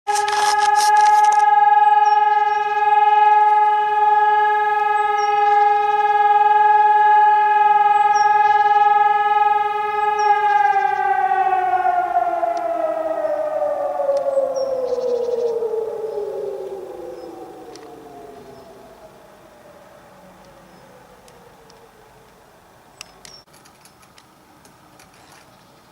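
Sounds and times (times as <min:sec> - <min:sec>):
warning siren winding down: 0:00.1 - 0:22.7.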